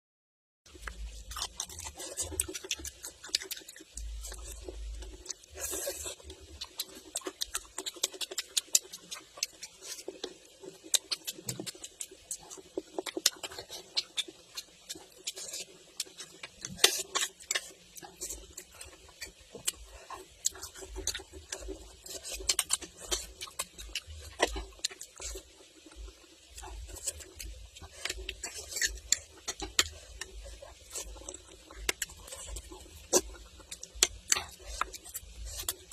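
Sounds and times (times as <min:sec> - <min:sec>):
wet chewing: 0:00.7 - 0:35.9.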